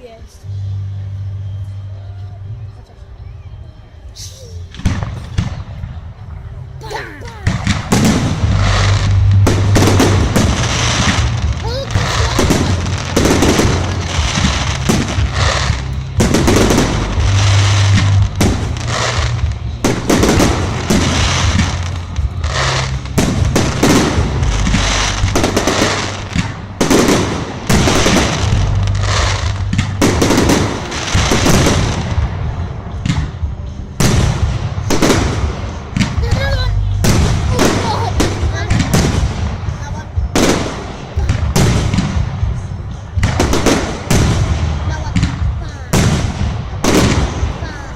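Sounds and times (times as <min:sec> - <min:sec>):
fireworks bangs and crackles: 0:04.6 - 0:47.9.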